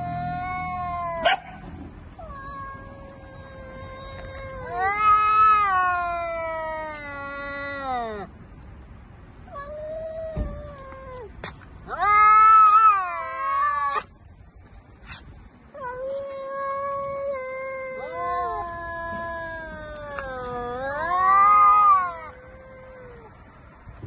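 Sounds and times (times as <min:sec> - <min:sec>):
cats caterwauling: 0:00.0 - 0:08.3, 0:09.4 - 0:14.1, 0:15.7 - 0:23.4.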